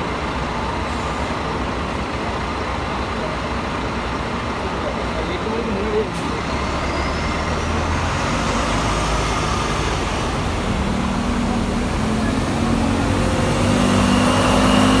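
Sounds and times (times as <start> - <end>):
bus diesel engine accelerating: 0.0 - 15.0.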